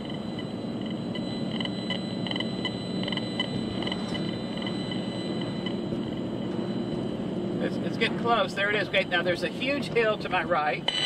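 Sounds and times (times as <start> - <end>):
car road and engine noise: 0.0 - 11.0
meter short irregular beeps: 0.0 - 11.0.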